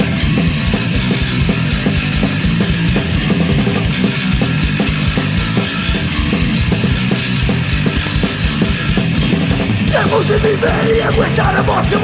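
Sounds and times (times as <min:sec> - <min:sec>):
punk rock band playing: 0:00.0 - 0:12.0.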